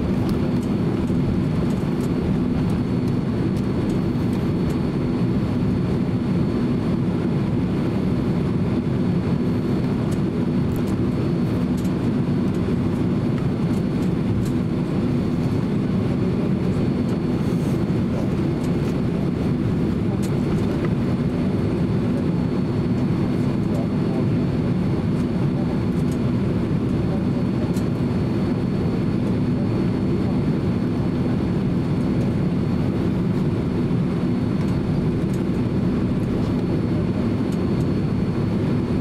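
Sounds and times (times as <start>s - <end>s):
jet engines idling: 0.0s - 39.0s.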